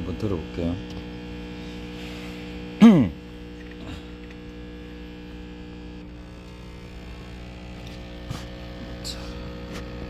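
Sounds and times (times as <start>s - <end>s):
sampling pump humming: 0.0s - 10.0s.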